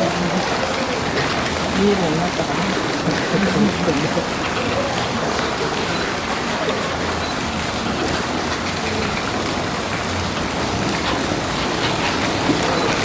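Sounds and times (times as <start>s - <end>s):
faint voices: 0.0s - 13.0s.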